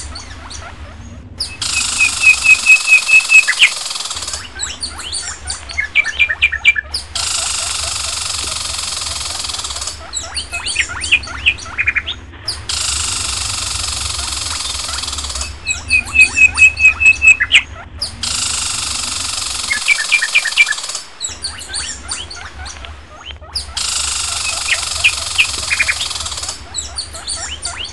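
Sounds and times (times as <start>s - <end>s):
birds chirping: 0.0s - 27.9s
steady outdoor hiss: 0.0s - 27.9s.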